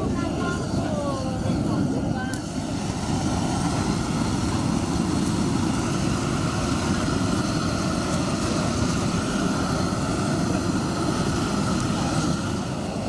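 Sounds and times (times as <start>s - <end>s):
gas torch burning: 0.0s - 13.0s.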